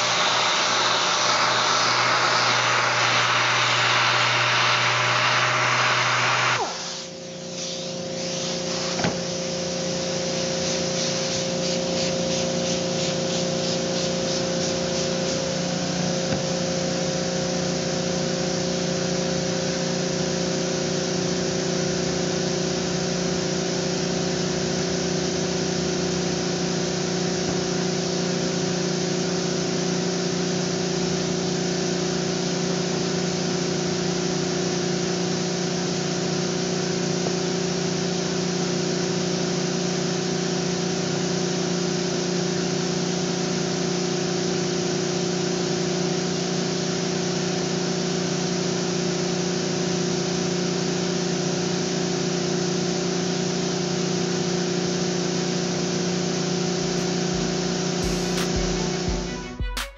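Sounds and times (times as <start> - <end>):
air sander: 0.0 - 59.3
machinery hum with hiss: 0.0 - 59.4.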